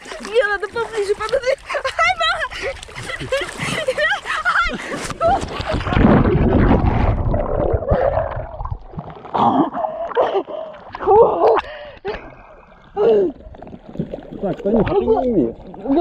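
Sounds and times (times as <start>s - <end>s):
heavy water splashing: 0.0s - 16.0s
light water sounds: 0.0s - 16.0s.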